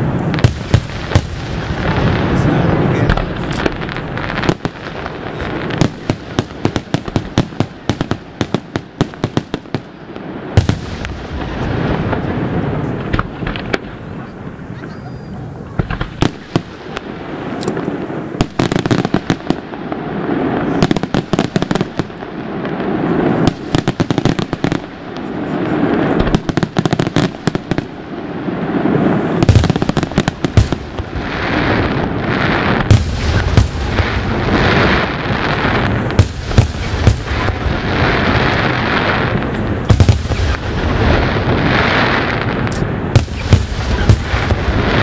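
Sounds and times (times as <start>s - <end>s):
deep firework booms: 0.0s - 45.0s
fireworks crackle: 0.0s - 45.0s.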